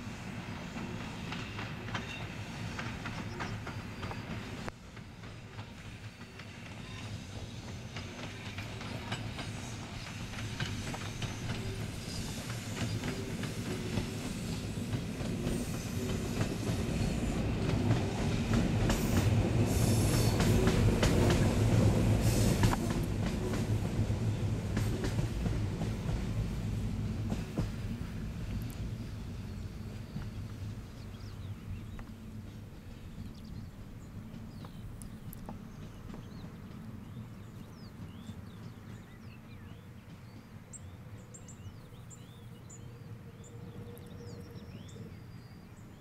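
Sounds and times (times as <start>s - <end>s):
electric train passing: 0.0s - 46.0s.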